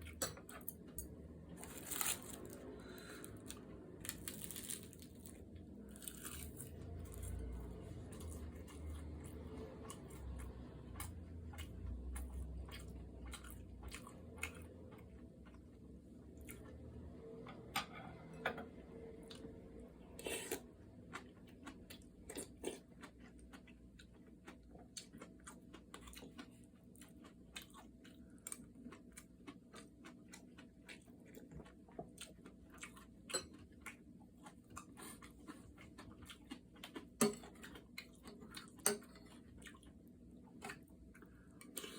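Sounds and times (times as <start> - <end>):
person chewing and crunching food: 0.0 - 17.2, 19.2 - 41.9.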